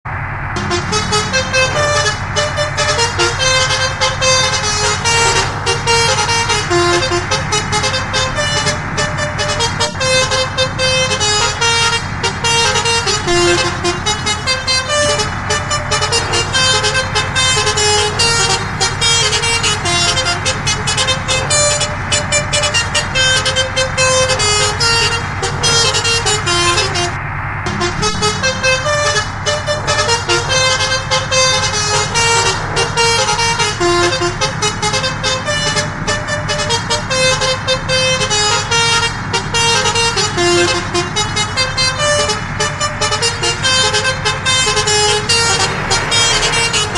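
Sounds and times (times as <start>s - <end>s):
bus engine rumble: 0.0s - 46.9s
multi-tone bus horn melody: 0.1s - 46.9s.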